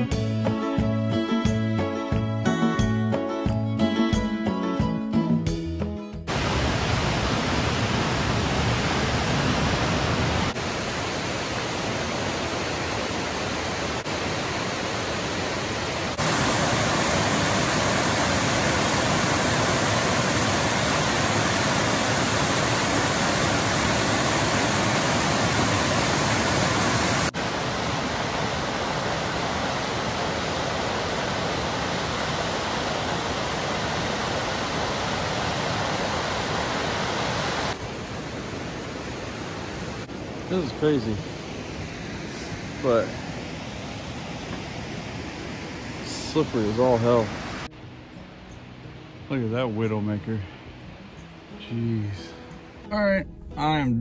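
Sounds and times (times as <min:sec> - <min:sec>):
waterfall rushing: 0:06.3 - 0:52.9.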